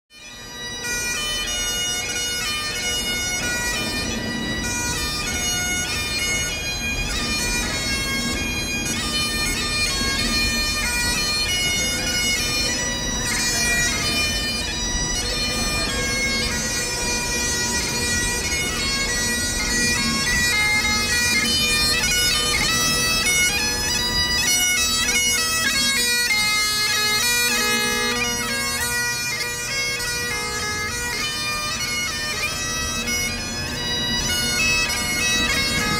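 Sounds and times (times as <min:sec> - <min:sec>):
bagpipes playing a tune: 0:00.1 - 0:35.9.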